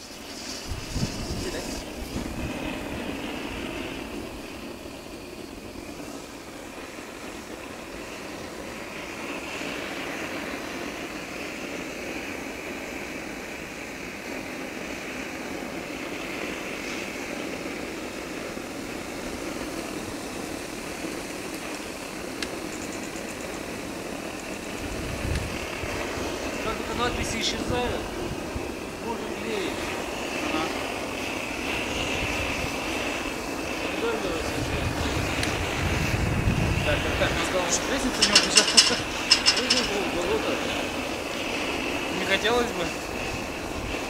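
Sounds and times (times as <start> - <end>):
blowtorch flame burning: 0.0 - 44.0.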